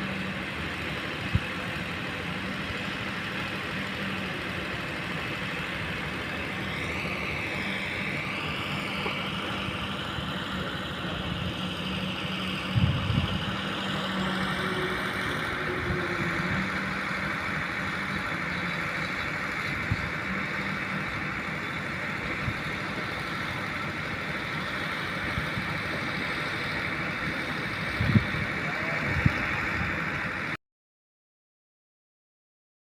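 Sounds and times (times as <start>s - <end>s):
excavator running: 0.0s - 30.6s.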